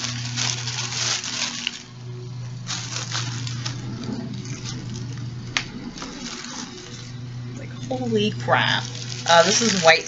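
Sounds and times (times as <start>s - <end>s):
packaging rustling and crinkling: 0.0s - 7.2s, 7.8s - 10.0s
steady low hum: 0.0s - 10.0s.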